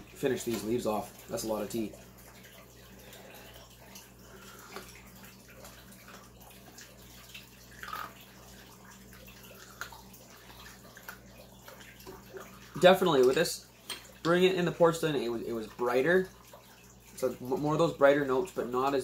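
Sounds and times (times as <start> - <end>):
aquarium filter water trickling: 0.0 - 19.0
low steady hum: 0.0 - 19.0.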